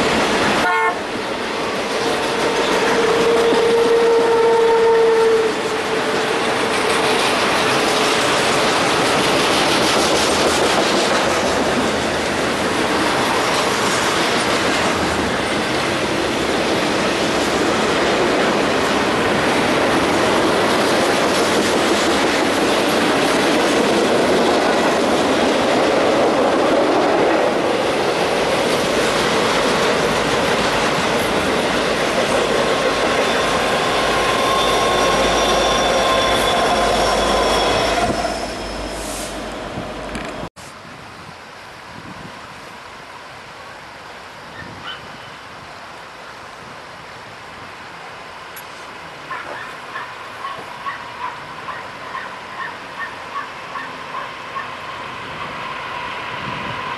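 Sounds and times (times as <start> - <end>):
freight train wheels on rails: 0.0 - 40.5, 46.3 - 56.9.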